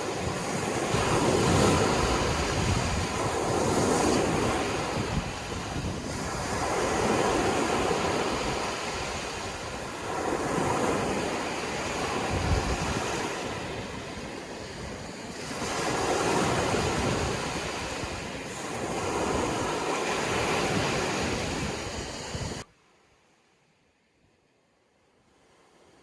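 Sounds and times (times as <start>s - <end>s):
wind rumble on microphone: 0.0s - 22.7s
sea waves breaking on shore: 0.0s - 23.0s.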